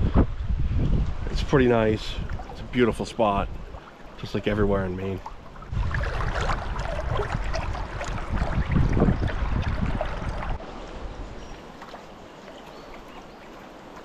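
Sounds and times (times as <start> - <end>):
river water splashing: 1.6 - 14.0.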